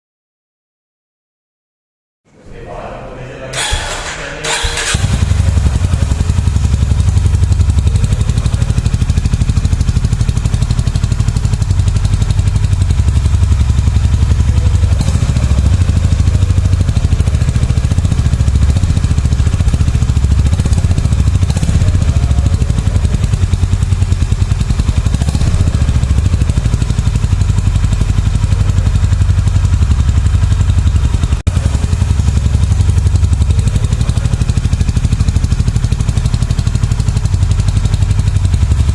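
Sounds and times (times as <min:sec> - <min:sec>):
motorcycle engine idling: 0:03.6 - 0:38.9.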